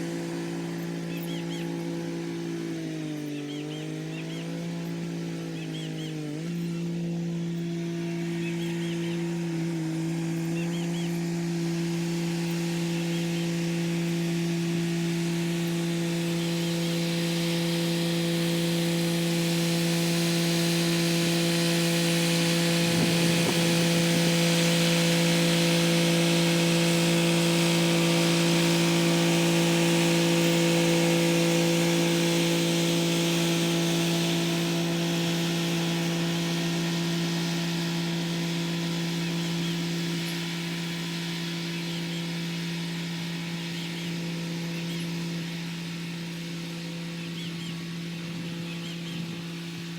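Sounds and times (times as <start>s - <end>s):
rotary tiller hissing: 0.0s - 49.9s
tractor engine running: 0.0s - 49.9s.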